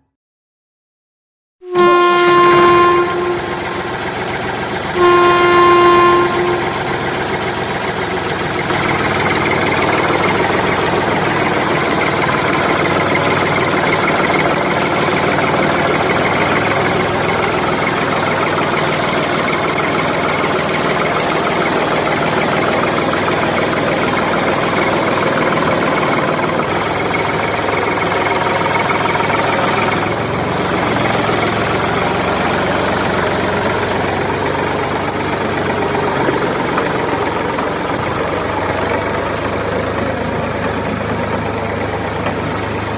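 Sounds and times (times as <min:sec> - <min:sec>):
engine idling: 0:01.7 - 0:42.9.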